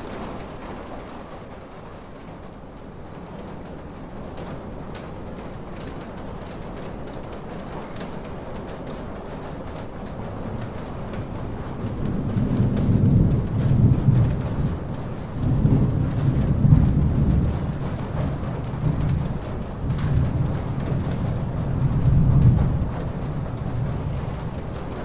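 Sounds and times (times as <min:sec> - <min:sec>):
heavy rain: 0:00.0 - 0:25.0
low rolls of thunder: 0:00.0 - 0:25.0.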